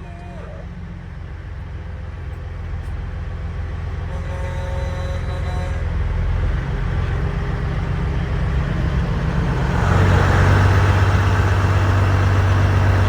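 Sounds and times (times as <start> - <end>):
diesel truck engines running: 0.0 - 13.0.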